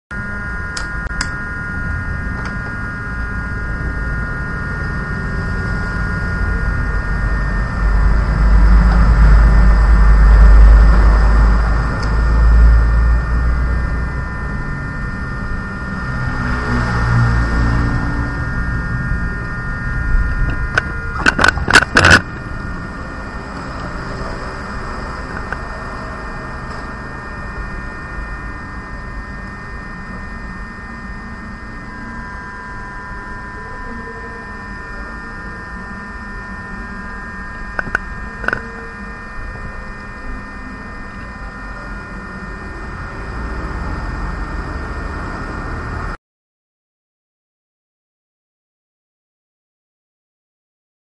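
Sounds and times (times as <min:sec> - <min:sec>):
electrical hum and hiss: 0:00.2 - 0:46.1.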